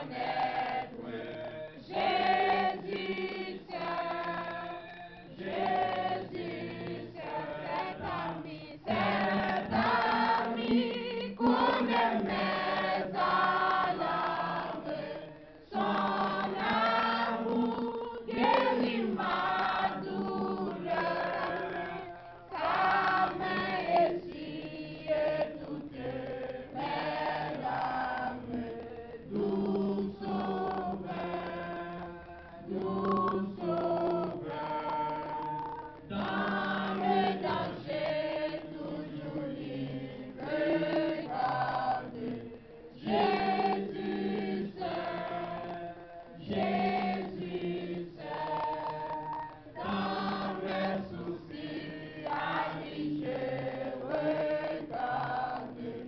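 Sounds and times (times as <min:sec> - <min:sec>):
congregation singing: 0:00.0 - 0:56.0.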